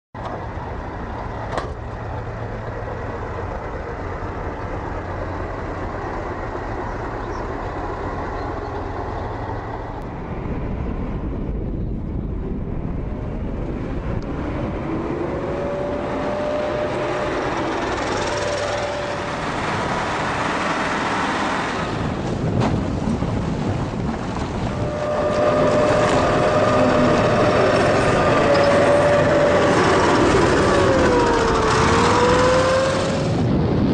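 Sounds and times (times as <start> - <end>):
diesel engine rumble: 0.1 - 33.9
engine whine: 0.2 - 33.9.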